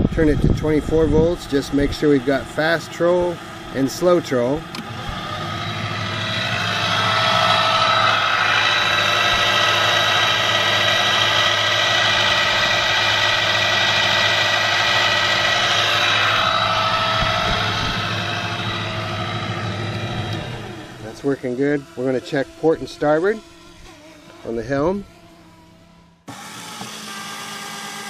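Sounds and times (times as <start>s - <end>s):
electric motor whine: 0.0s - 28.0s.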